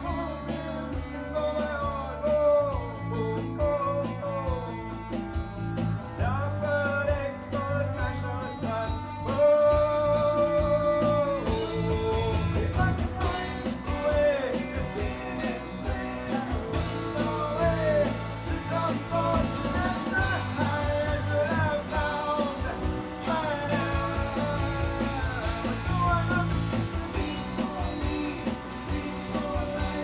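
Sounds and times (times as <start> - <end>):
electric guitar: 0.0 - 30.0
steady drum beat: 0.0 - 30.0.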